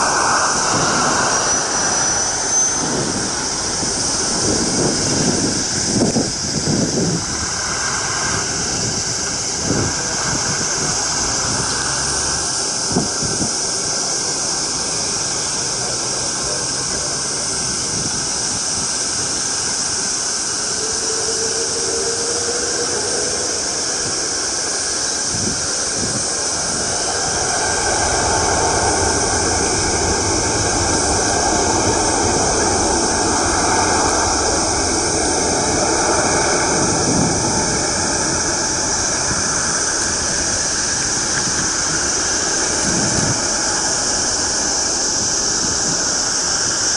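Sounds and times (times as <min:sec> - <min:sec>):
jet engines spooling up: 0:00.0 - 0:46.9
steady high hiss: 0:00.0 - 0:46.9.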